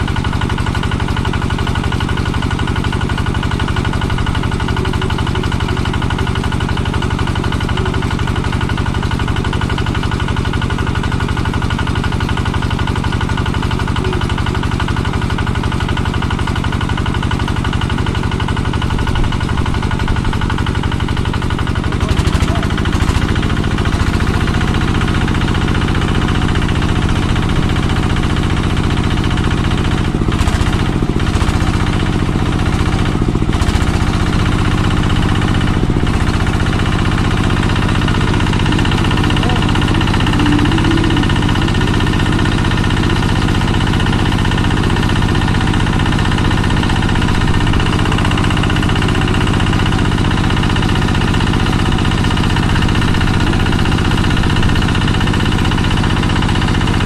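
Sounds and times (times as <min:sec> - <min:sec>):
diesel water pump running: 0:00.0 - 0:57.0.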